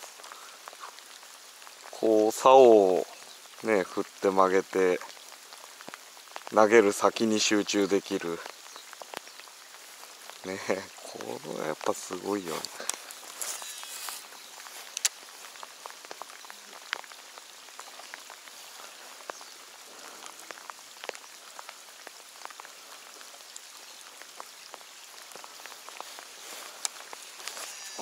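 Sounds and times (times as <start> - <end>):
raindrops ticking close by: 0.0 - 28.0
steady rain: 0.0 - 28.0.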